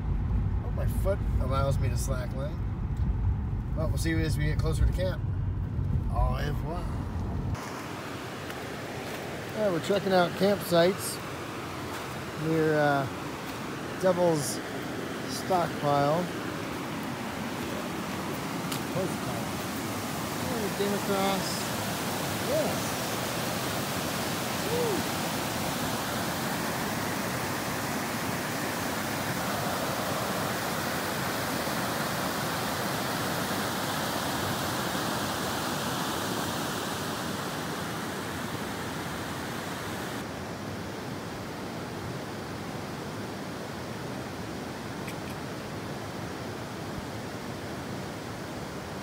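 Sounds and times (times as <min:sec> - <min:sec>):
river water rushing over rocks: 0:07.6 - 0:49.0.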